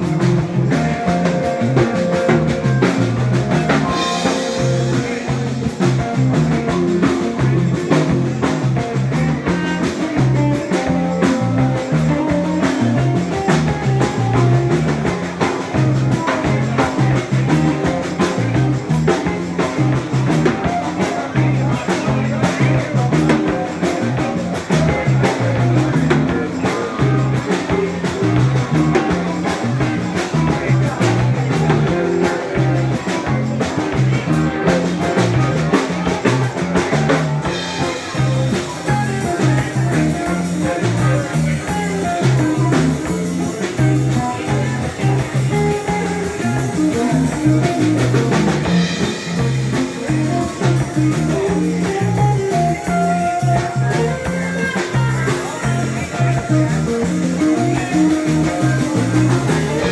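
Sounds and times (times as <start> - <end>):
bass guitar: 0.0 - 59.9
drum kit beat: 0.0 - 59.9
electric guitar: 0.0 - 59.9.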